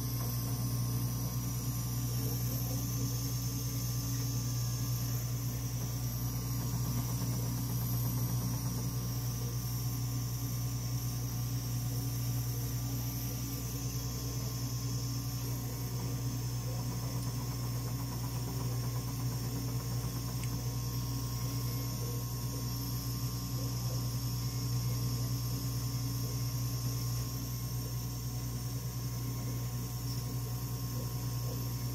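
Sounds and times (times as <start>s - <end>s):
machine fans humming: 0.0s - 31.9s.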